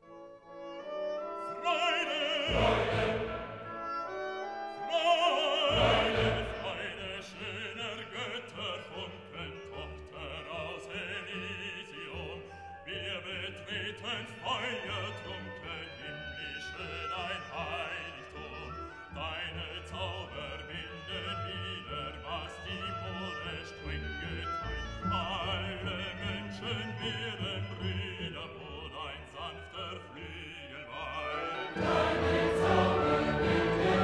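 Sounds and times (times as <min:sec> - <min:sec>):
sustained orchestral strings: 0:00.5 - 0:34.0
operatic singing: 0:01.3 - 0:34.0.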